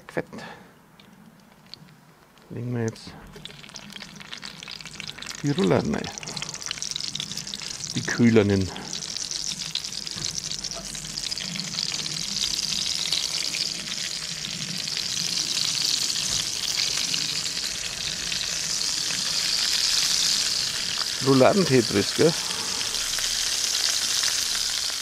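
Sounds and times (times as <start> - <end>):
cabbage rolls sizzling in fat: 2.4 - 25.0.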